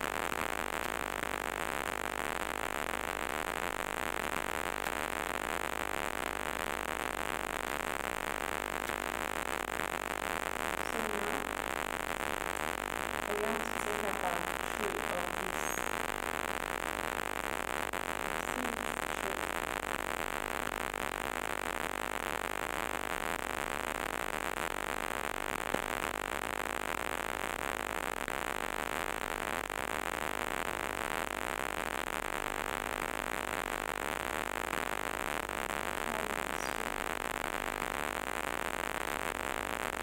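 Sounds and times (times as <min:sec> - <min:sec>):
static hiss: 0:00.0 - 0:40.0.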